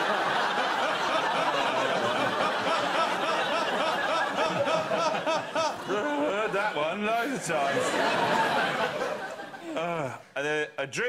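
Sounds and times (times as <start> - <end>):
audience laughing: 0.0 - 10.2.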